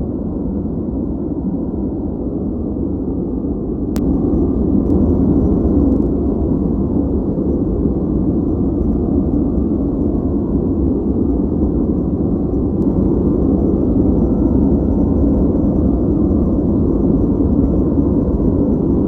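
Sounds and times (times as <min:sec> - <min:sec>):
low deep steady noise: 0:00.0 - 0:19.0.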